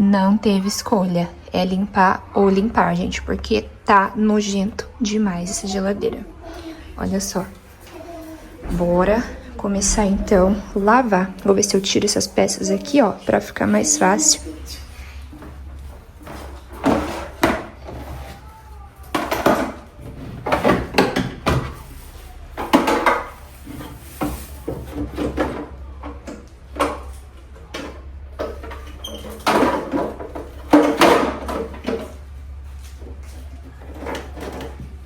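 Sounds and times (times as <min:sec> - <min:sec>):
refrigerator parts clattering: 0:04.4 - 0:35.0.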